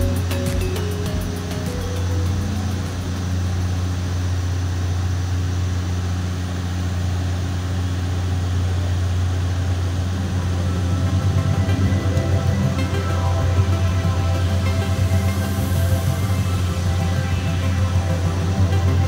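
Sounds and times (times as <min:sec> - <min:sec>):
airliner cabin drone: 0:00.0 - 0:19.0
constant low hum: 0:00.0 - 0:19.0.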